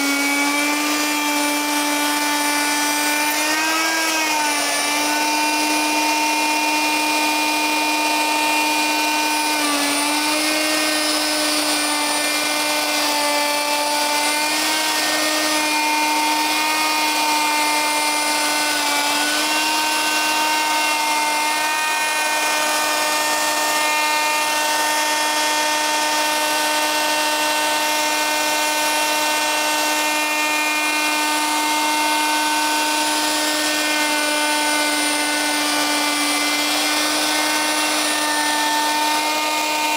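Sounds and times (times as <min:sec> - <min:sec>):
router whining at high speed: 0:00.0 - 0:39.9.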